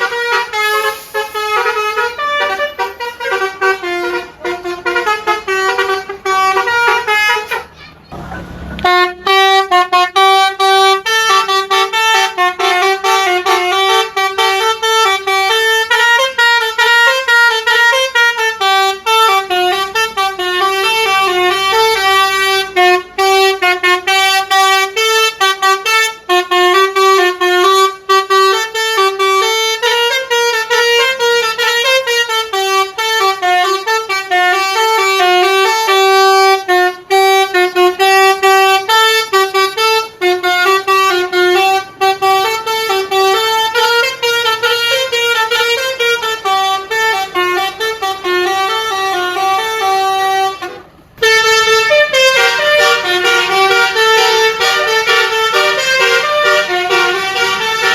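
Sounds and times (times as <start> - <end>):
musical bus horn playing a tune: 0.0 - 57.9.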